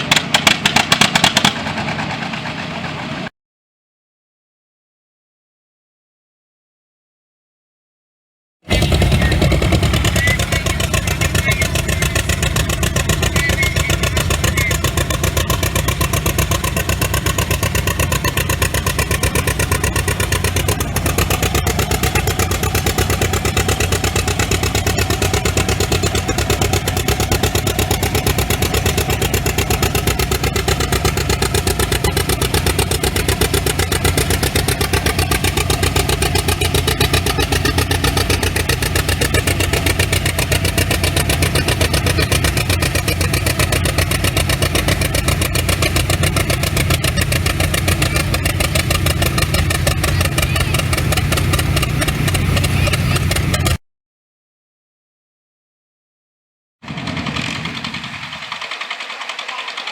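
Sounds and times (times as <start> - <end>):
tractor engine running: 0.0 - 3.3, 8.7 - 53.8, 56.8 - 59.9.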